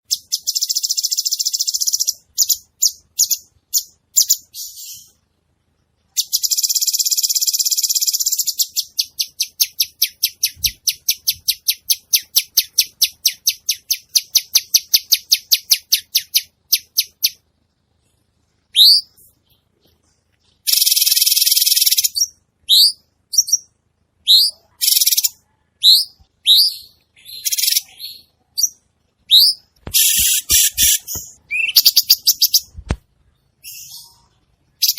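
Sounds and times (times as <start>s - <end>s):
songbird singing buzzy trills: 0.0s - 34.9s.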